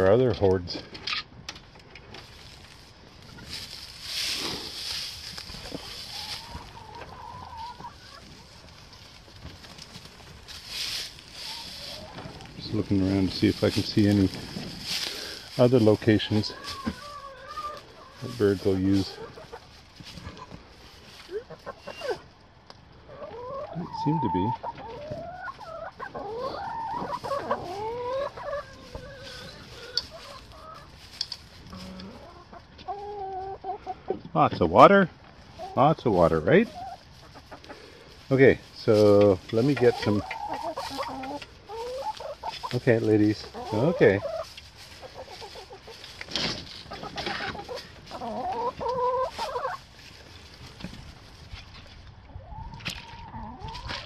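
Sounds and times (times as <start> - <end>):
hens clucking and calling: 0.0 - 54.0.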